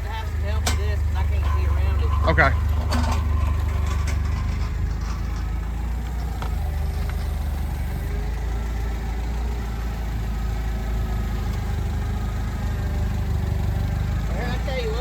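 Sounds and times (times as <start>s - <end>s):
forklift engine idling: 0.0s - 15.0s.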